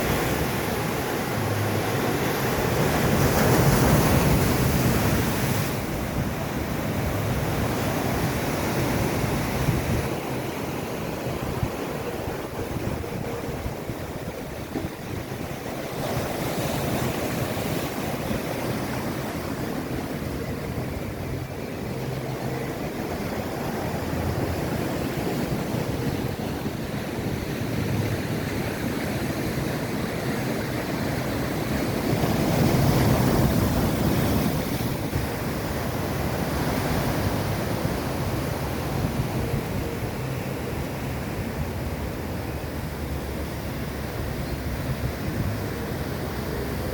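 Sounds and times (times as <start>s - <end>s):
ocean surf breaking: 0.0s - 46.9s
wind on microphone: 0.0s - 46.9s.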